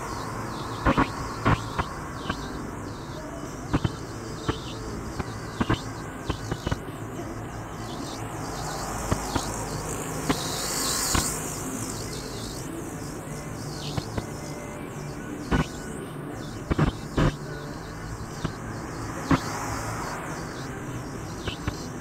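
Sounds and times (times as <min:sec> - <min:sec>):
motorcycle passing by: 0:00.0 - 0:22.0
road and engine rumble in car: 0:00.0 - 0:22.0.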